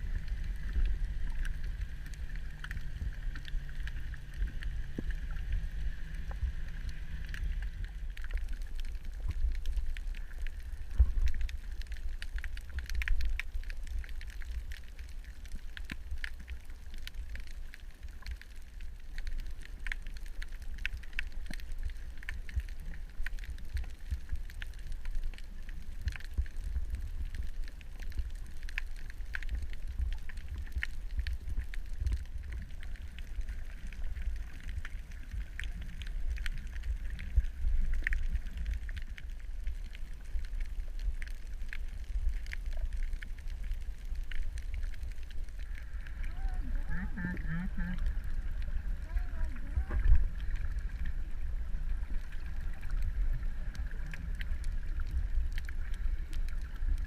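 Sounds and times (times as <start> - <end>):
reef crackling clicks: 0.0 - 57.0
underwater low rumble: 0.0 - 57.0.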